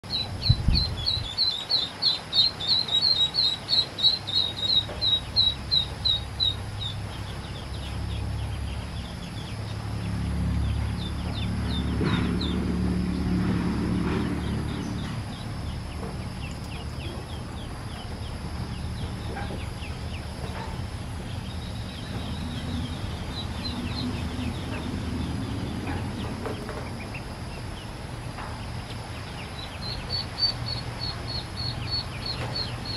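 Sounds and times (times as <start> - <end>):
ducklings peeping: 0.0 - 32.9
low drone: 0.1 - 32.9.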